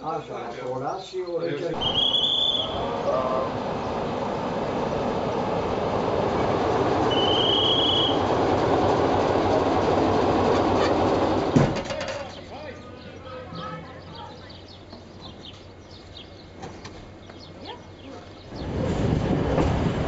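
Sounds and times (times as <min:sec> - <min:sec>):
diesel locomotive rumbling on rails: 0:01.6 - 0:20.0.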